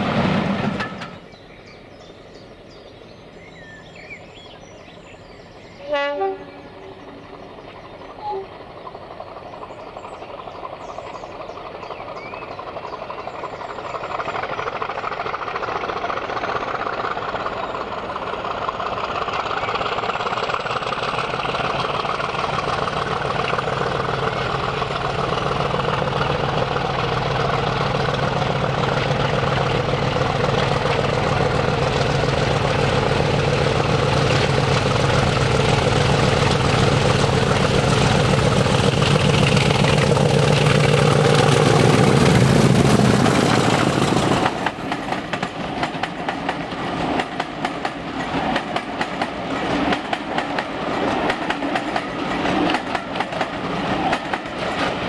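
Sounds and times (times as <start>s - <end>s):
diesel locomotive working hard: 0.0s - 55.0s.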